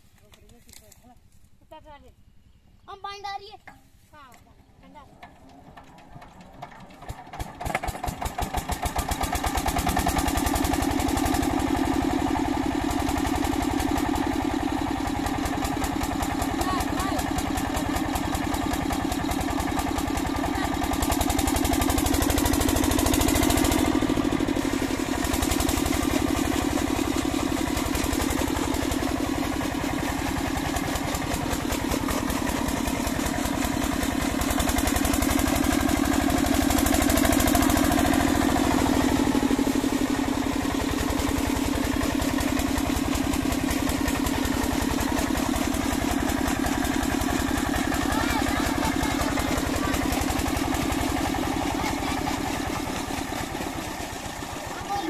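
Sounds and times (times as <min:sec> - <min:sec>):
diesel engine running: 0:04.1 - 0:55.0.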